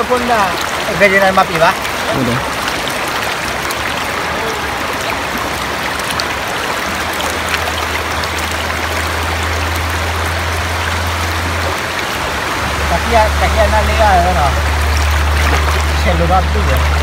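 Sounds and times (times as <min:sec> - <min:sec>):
river rushing over stones: 0:00.0 - 0:17.0
low steady rumble: 0:01.8 - 0:17.0.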